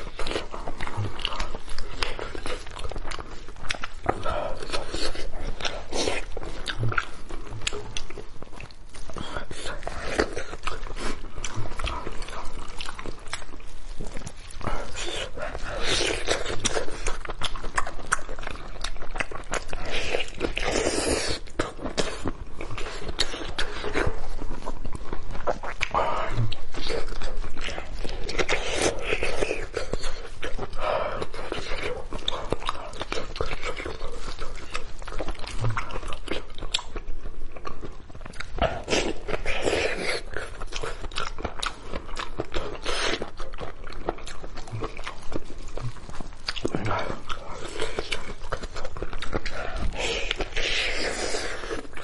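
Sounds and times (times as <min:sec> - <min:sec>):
wet chewing and lip smacking: 0:00.0 - 0:52.0.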